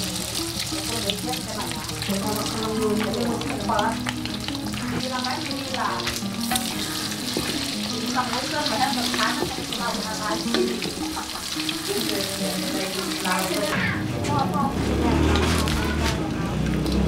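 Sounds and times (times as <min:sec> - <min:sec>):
background music: 0:00.0 - 0:17.0
food sizzling in a pan: 0:00.0 - 0:17.0.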